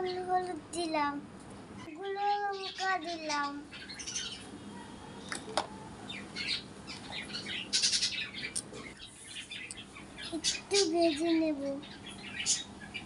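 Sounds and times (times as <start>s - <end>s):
small birds chirping: 1.8s - 13.0s.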